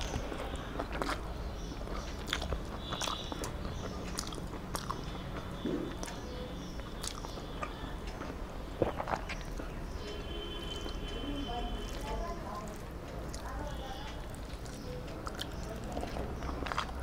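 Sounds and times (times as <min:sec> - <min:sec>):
chewing and wet mouth smacks: 0:00.0 - 0:09.8, 0:11.9 - 0:13.5, 0:14.2 - 0:17.0.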